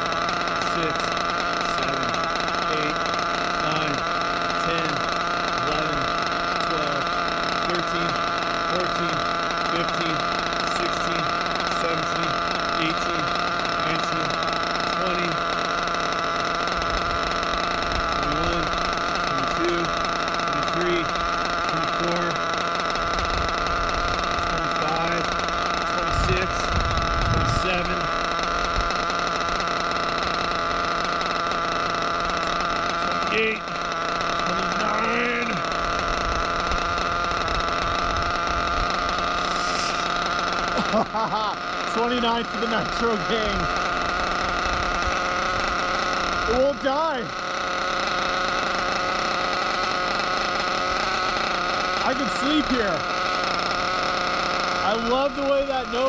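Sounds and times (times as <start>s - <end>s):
nitro engine idling buzz: 0.0s - 56.0s.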